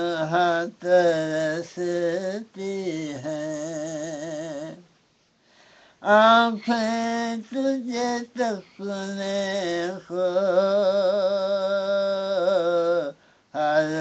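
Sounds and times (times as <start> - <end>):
person singing unaccompanied: 0.0 - 4.9, 6.0 - 14.0.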